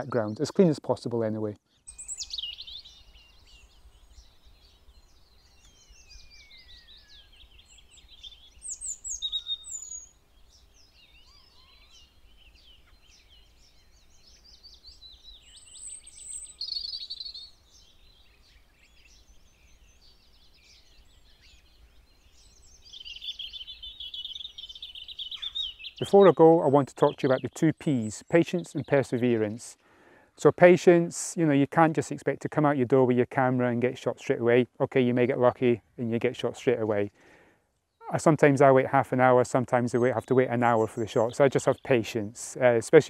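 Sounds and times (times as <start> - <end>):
birds chirping and trilling: 0.0 - 43.0.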